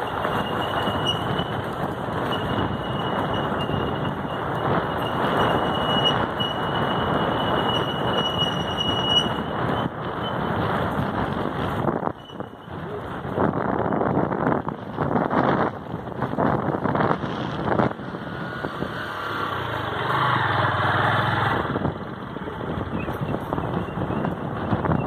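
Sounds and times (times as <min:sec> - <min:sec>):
road and engine noise: 0:00.0 - 0:25.0.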